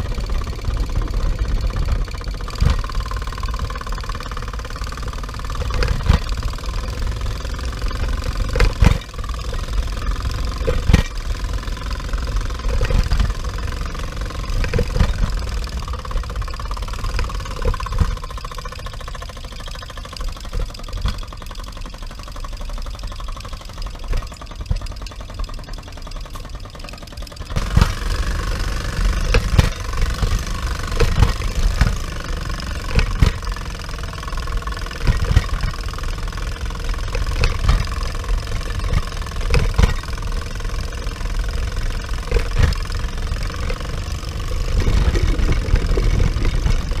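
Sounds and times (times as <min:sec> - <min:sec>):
model steam engine chugging: 0:00.0 - 0:47.0
sharp mechanical knocks: 0:00.0 - 0:47.0.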